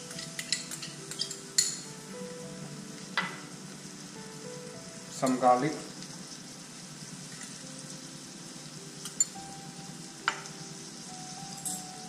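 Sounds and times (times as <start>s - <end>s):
shallots and garlic sizzling in pan: 0.0s - 12.0s.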